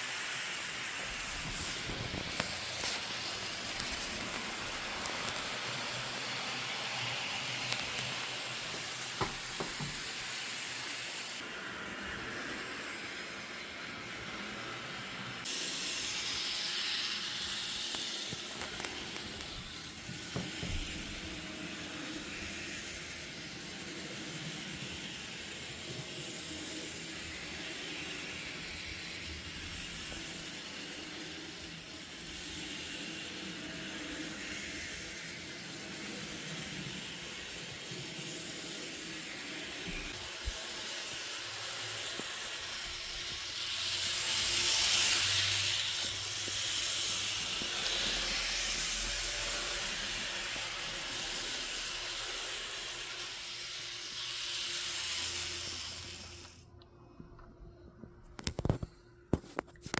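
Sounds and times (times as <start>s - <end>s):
train running: 0.0s - 56.6s
steam hissing: 0.0s - 56.7s.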